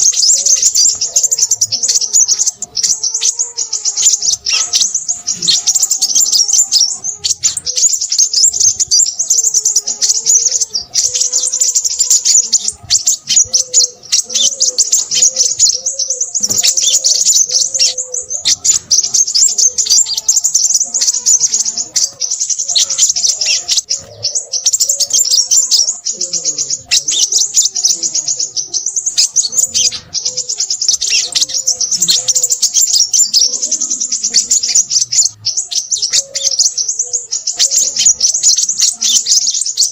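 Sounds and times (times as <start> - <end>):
bird high chirps and twitters: 0.0 - 39.9
lower wavering bird call: 0.0 - 39.9.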